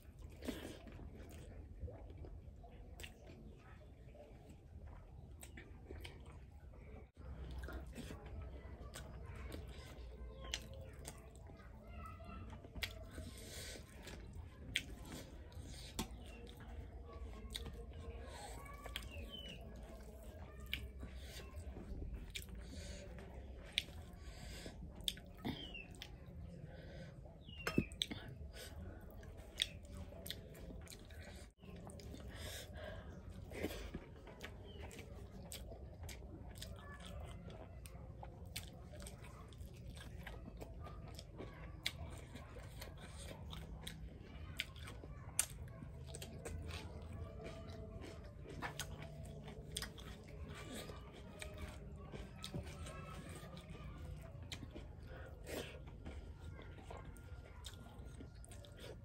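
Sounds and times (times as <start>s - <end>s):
person chewing with mouth smacks: 0.0s - 11.8s, 12.4s - 59.0s.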